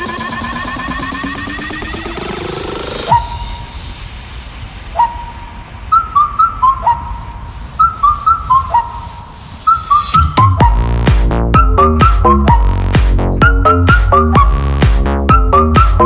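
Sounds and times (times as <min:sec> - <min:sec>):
whistle-like synth melody: 0:00.0 - 0:03.8, 0:04.9 - 0:16.0
electronic beat with bass: 0:00.0 - 0:16.0.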